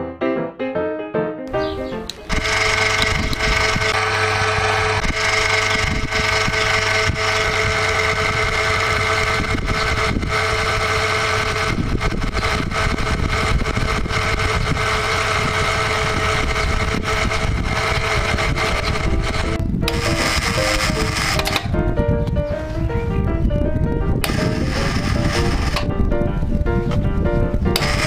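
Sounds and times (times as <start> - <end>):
electric hoist motor humming and whining: 1.7 - 28.0.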